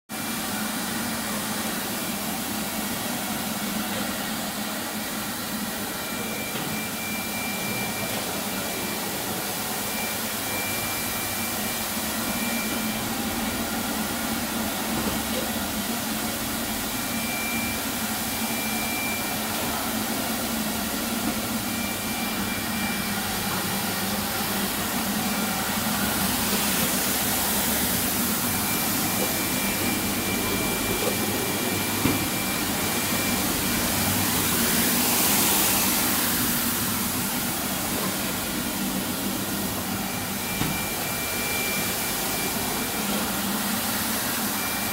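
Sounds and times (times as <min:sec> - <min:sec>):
carpet washing machine brushes whirring: 0:00.1 - 0:44.9.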